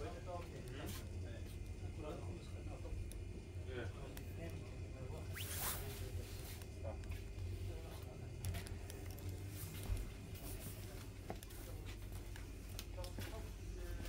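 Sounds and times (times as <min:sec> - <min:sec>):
faint background voices: 0:00.0 - 0:14.0
steady low hum: 0:00.0 - 0:14.0.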